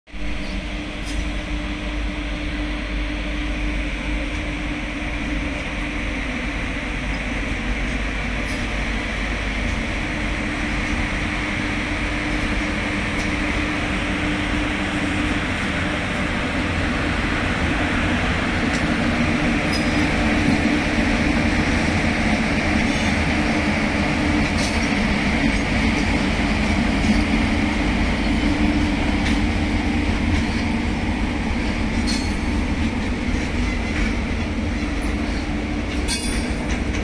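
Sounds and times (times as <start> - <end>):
train wheels rumbling on rail: 0.1 - 37.0.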